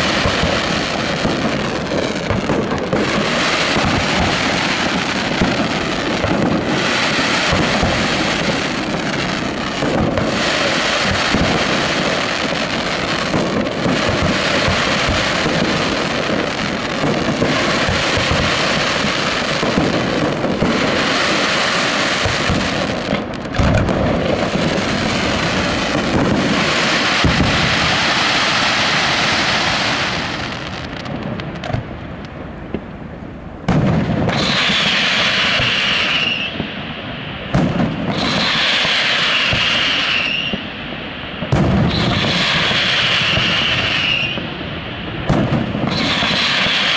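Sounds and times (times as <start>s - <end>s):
deep firework booms: 0.0s - 46.9s
fireworks crackling: 0.0s - 46.9s.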